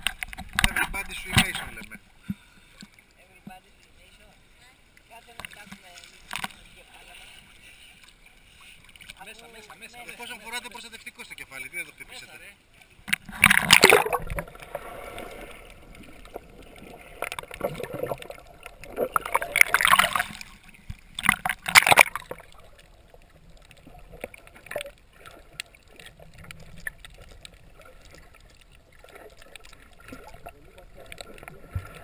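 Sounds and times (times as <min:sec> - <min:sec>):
muffled underwater wash: 0:00.0 - 0:32.0
sea water splashing: 0:00.0 - 0:32.0.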